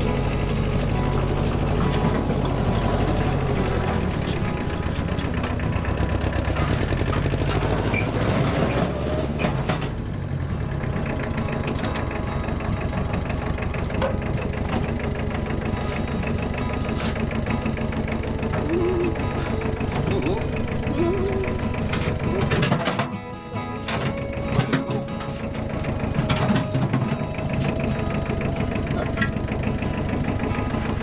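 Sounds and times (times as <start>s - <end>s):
engine droning: 0.0s - 31.0s.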